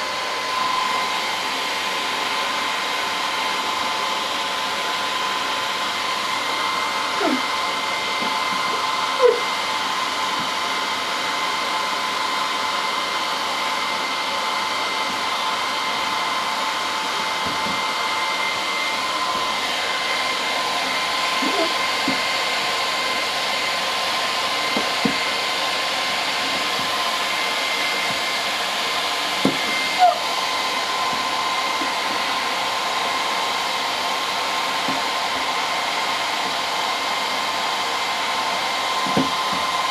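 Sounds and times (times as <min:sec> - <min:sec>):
hot-air blower hissing and whining: 0:00.0 - 0:39.9.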